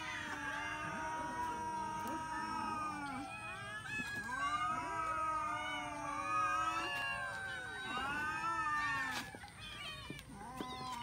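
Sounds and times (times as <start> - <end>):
cats meowing and yowling: 0.0 - 11.0.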